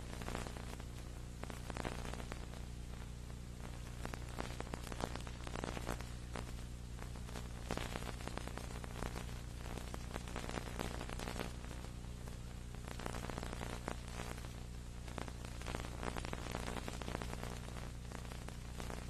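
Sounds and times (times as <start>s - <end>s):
electrical hum: 0.0s - 19.0s
static crackle: 0.0s - 19.0s.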